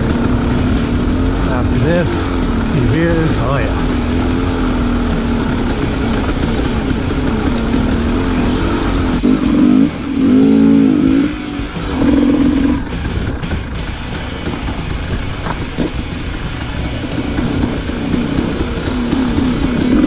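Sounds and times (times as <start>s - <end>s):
dirt bike engine revving: 0.0s - 20.0s
low wind rumble: 0.0s - 20.0s.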